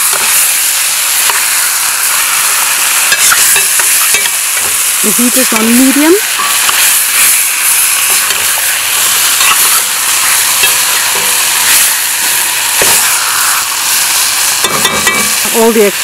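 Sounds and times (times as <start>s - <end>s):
chicken frying in oil: 0.0s - 16.0s.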